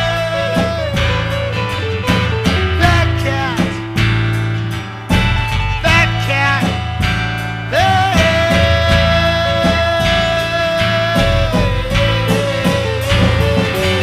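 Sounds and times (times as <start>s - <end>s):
band music with guitar and drums: 0.0s - 14.0s.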